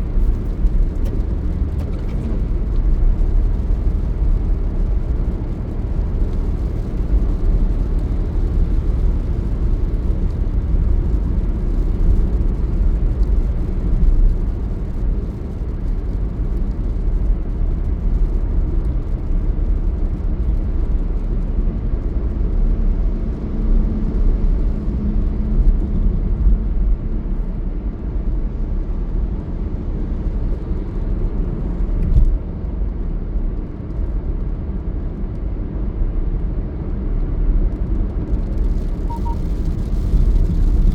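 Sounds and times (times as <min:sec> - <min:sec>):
vehicle road and engine rumble: 0:00.0 - 0:40.9.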